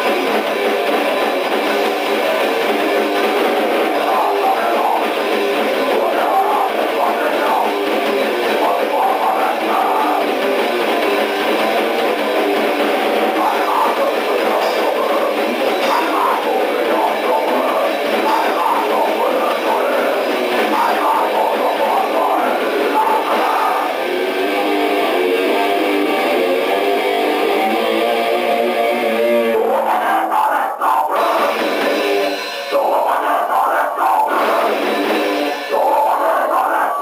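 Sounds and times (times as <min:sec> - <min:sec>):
distorted electric guitar: 0:00.0 - 0:37.0
drums: 0:00.0 - 0:37.0.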